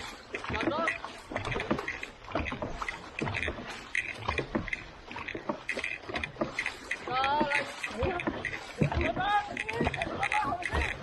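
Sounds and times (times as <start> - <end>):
paddles dipping through water: 0.0 - 11.0.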